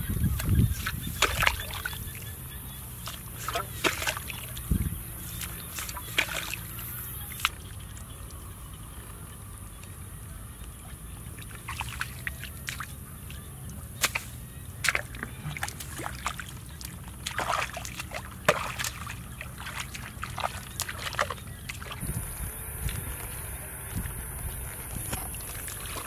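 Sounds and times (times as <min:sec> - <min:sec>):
mud squelching and water sloshing: 0:00.0 - 0:26.0.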